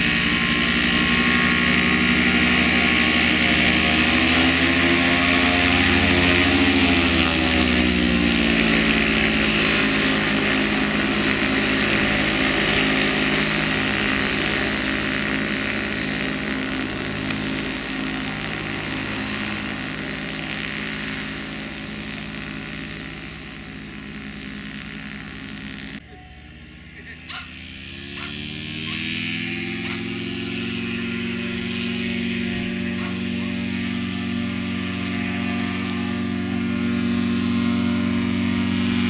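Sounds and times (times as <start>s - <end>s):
ultralight engine and propeller: 0.0s - 39.0s.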